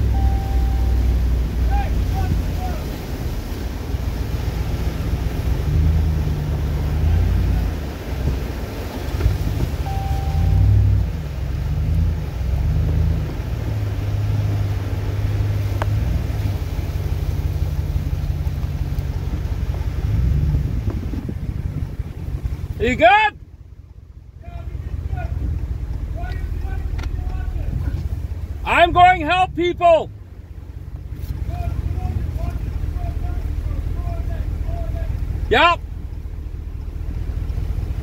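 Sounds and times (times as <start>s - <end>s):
engine and water rumbling: 0.0s - 38.0s.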